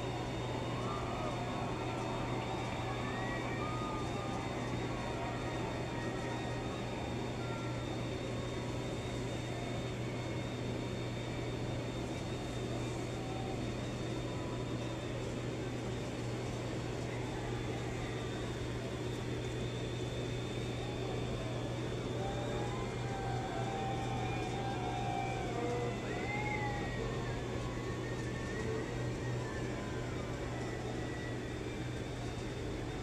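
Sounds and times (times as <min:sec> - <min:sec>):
low mechanical hum: 0:00.0 - 0:33.0
muffled street and crowd noise: 0:00.0 - 0:33.0.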